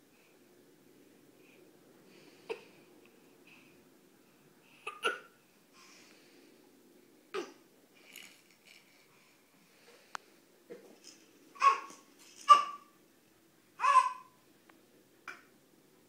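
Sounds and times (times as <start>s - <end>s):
faint soft noises: 0.0s - 16.0s.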